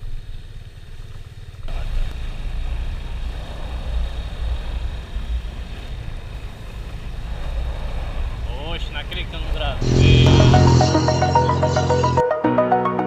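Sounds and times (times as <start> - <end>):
motorcycle engine at speed: 0.0 - 12.2.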